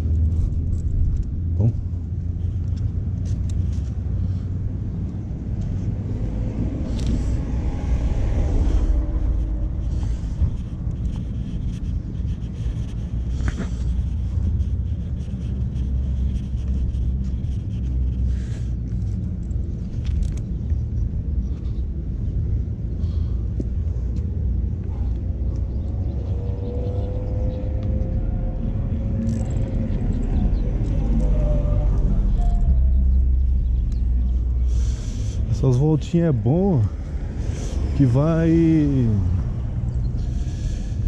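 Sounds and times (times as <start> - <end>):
street traffic rumble: 0.0 - 41.0
vehicle passing: 0.0 - 41.0.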